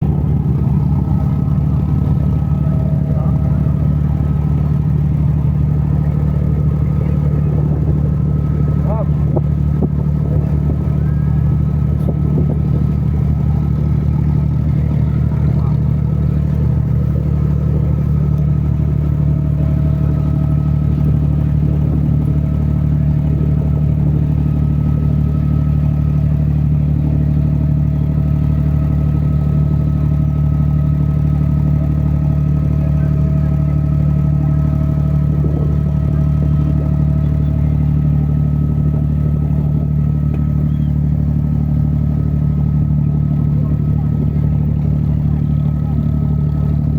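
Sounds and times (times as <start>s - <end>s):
boat engine humming: 0.0s - 46.9s.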